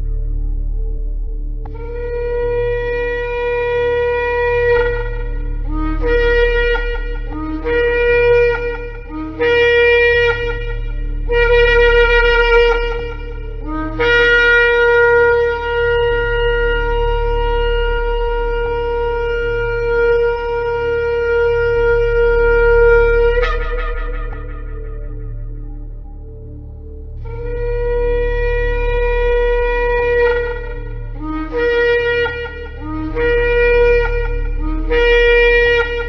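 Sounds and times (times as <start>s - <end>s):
ram's horn blasts: 1.7s - 26.3s, 27.2s - 36.0s.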